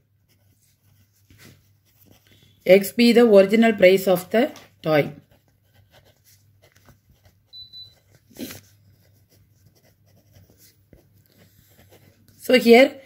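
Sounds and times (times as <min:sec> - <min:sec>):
pen scratching on paper: 0:00.0 - 0:04.0, 0:04.8 - 0:12.9.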